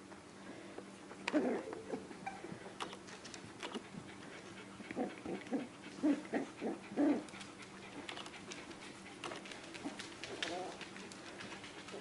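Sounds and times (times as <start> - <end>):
dogs whimpering: 1.1 - 12.0.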